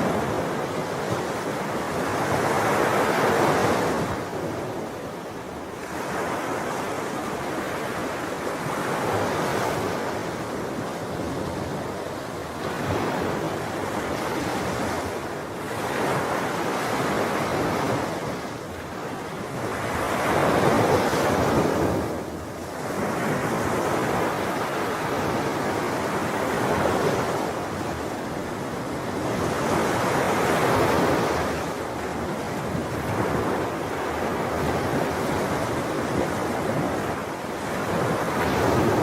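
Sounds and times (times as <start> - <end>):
sea waves washing on shore: 0.0 - 39.0.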